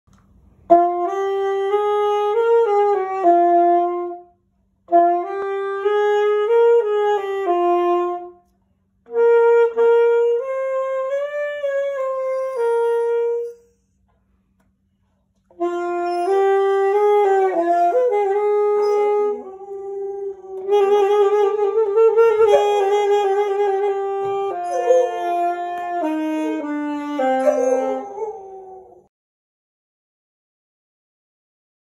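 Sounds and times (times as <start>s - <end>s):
saxophone playing: 0.7s - 13.8s, 15.5s - 29.1s.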